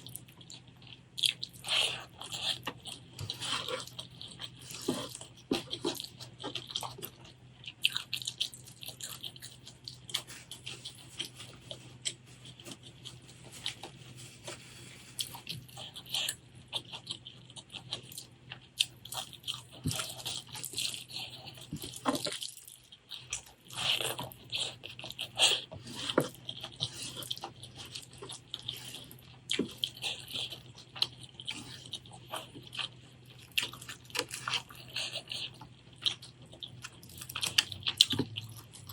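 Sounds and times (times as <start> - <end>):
faint low hum: 0.0 - 38.9
wet chewing and mouth sounds: 0.0 - 38.9.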